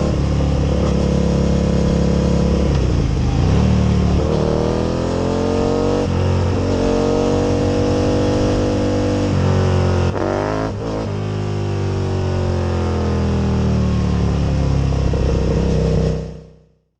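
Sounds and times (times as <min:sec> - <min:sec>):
motorcycle engine accelerating: 0:00.0 - 0:16.7.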